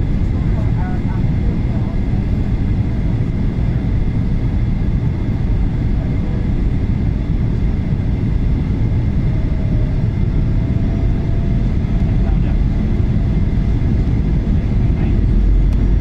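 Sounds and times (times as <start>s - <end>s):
airliner engine roar: 0.0s - 16.0s.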